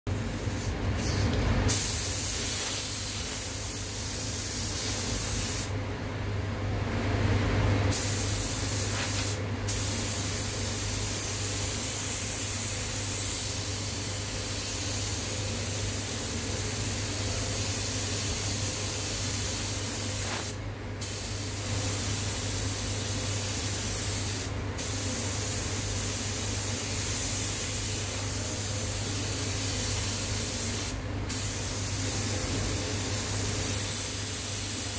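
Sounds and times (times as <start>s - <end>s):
spray gun hissing: 1.7s - 5.7s, 7.9s - 16.4s, 17.5s - 32.4s, 33.0s - 34.9s.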